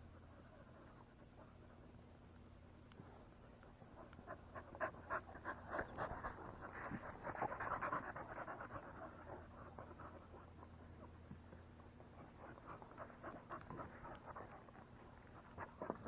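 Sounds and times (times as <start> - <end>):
dog panting: 3.0 - 16.0.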